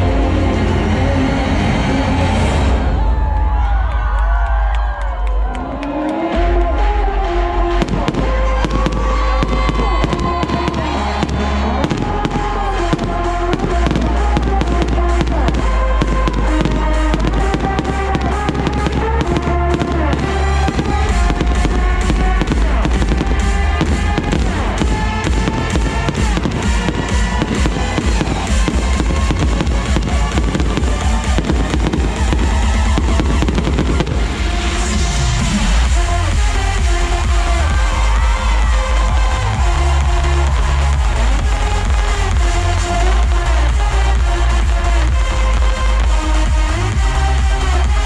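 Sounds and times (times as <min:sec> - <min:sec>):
loud music with heavy bass: 0:00.0 - 0:48.0
fireworks bangs and crackles: 0:06.8 - 0:48.0.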